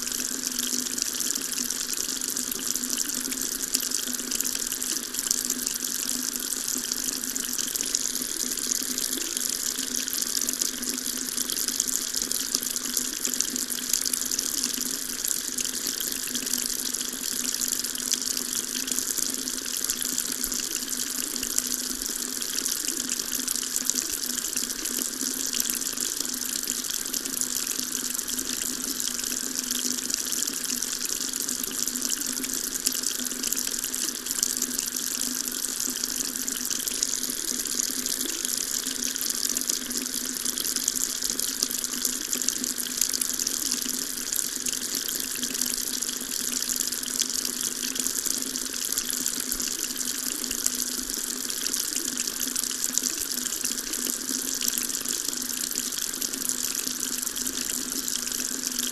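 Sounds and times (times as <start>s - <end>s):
tap water running: 0.0s - 58.9s.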